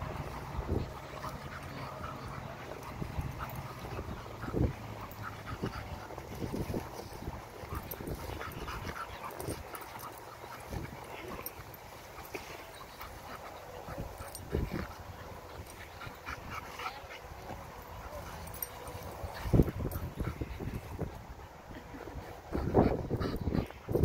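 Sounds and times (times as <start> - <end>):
dogs growling: 0.0 - 20.8.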